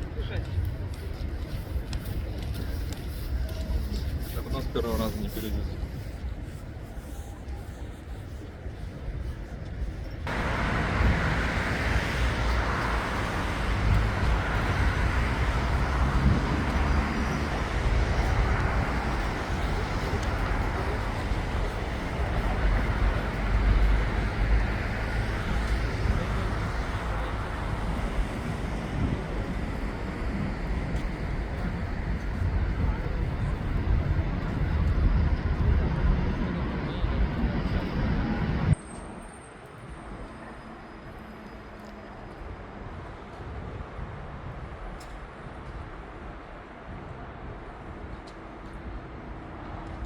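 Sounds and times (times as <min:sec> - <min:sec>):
city road traffic: 0:00.0 - 0:50.0.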